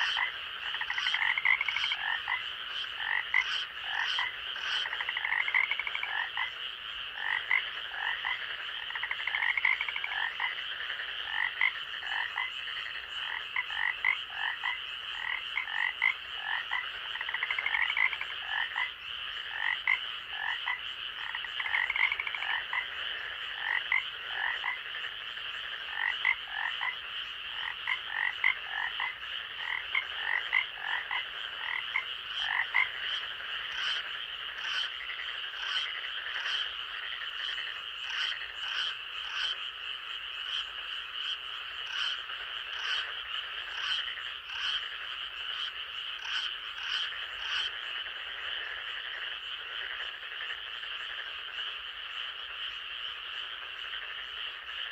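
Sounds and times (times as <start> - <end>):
frogs croaking: 0.0 - 54.9
frogs trilling: 0.0 - 54.9.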